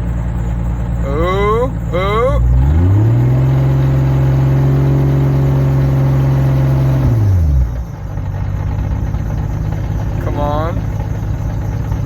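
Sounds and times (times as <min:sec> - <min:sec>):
car engine revving then idling: 0:00.0 - 0:12.0.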